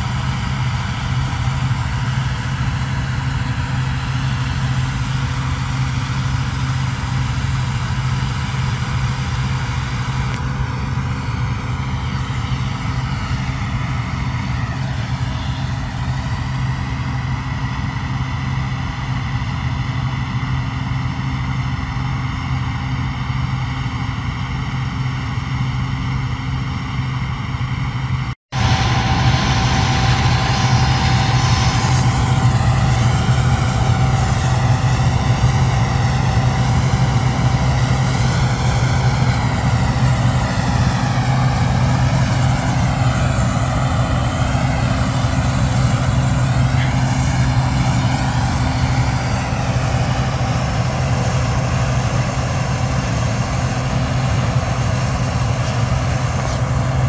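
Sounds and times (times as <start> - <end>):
combine harvester diesel engine running: 0.0 - 57.0.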